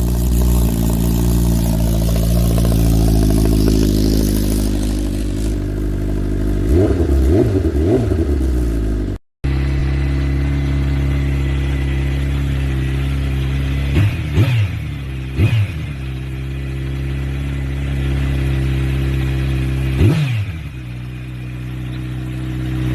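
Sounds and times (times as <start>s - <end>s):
motorcycle idling with throttle blips: 0.0s - 22.9s
motorcycle sharp revs: 0.0s - 22.9s.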